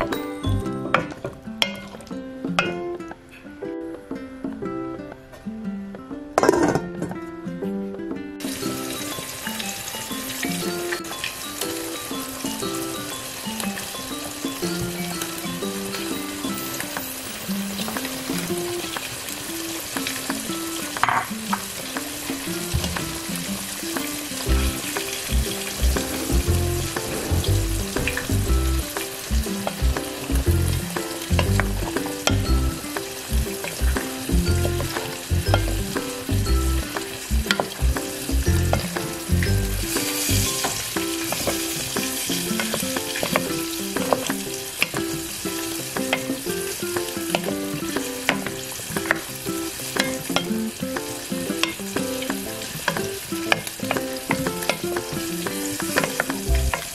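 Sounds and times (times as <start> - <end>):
food sizzling in a pot: 8.4 - 56.9.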